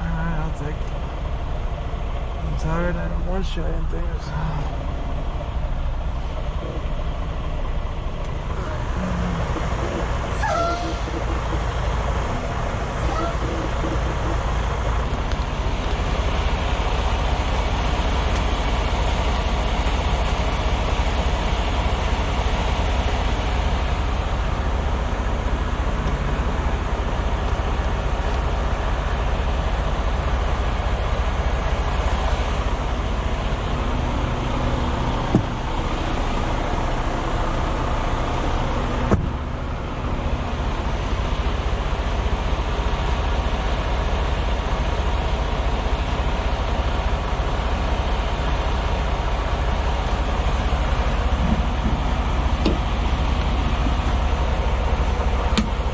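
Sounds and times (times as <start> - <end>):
diesel truck engine rumbling: 0.0 - 55.9.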